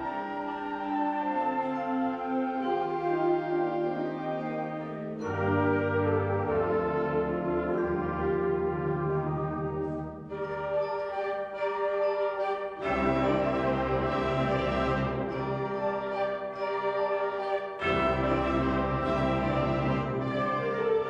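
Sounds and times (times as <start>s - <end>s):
wind ensemble playing chords: 0.0s - 21.0s.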